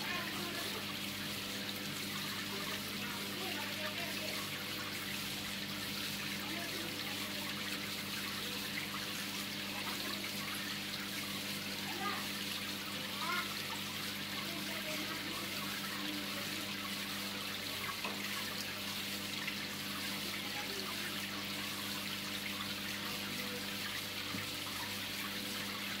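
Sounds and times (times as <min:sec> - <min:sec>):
aquarium water trickling: 0:00.0 - 0:26.0.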